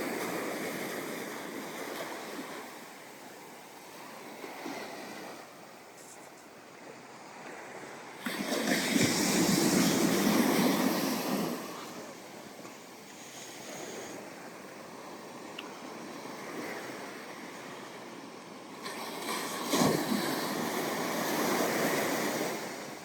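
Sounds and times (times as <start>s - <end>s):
ocean waves breaking on beach: 0.0s - 23.0s.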